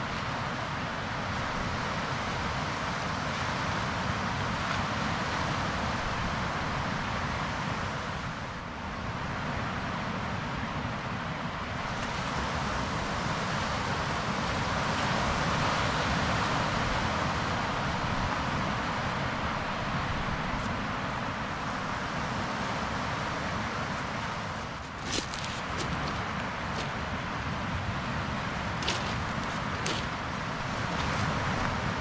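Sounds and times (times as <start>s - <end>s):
sea on a boulder shore: 0.0s - 32.0s
wind: 0.0s - 32.0s.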